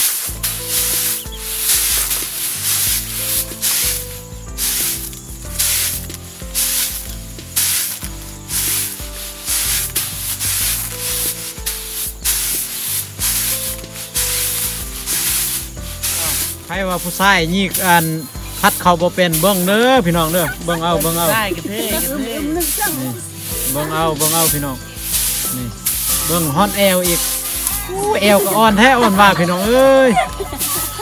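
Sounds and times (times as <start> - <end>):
rice swishing in winnowing tray: 0.0 - 31.0.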